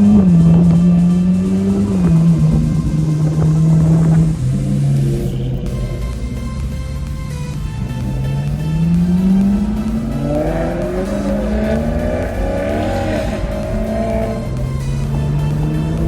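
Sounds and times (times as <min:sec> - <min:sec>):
car engines accelerating: 0:00.0 - 0:16.0.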